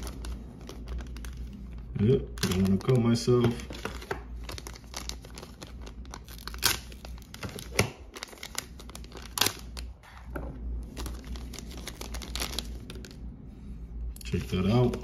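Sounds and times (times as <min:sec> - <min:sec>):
plastic bag crinkling and tearing: 0:00.0 - 0:10.1, 0:10.8 - 0:13.2.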